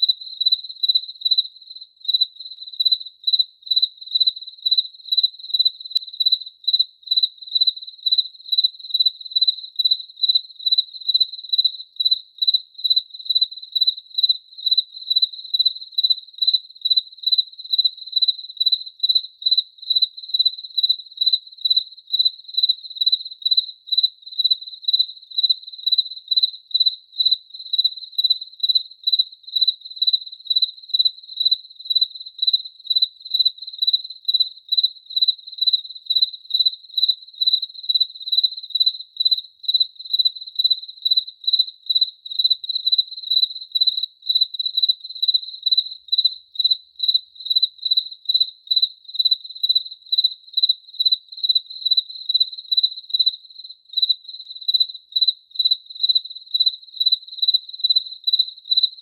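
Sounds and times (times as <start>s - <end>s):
cricket chirping: 0.0s - 59.0s.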